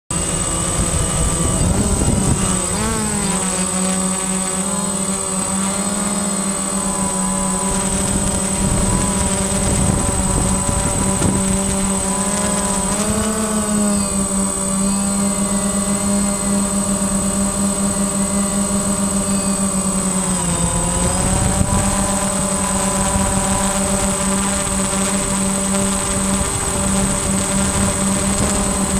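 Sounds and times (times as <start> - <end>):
drone motors whining: 0.1 - 28.9
thin high tone: 0.1 - 28.9.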